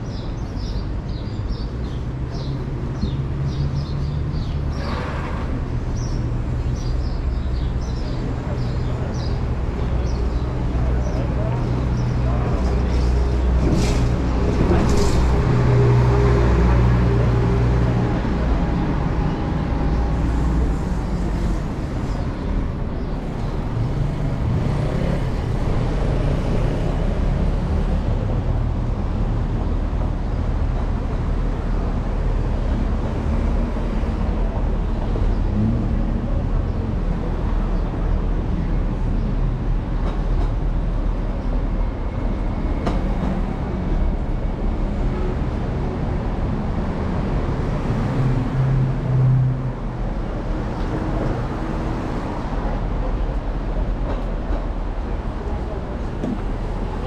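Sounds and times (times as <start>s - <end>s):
rumble of passing traffic: 0.0s - 57.0s.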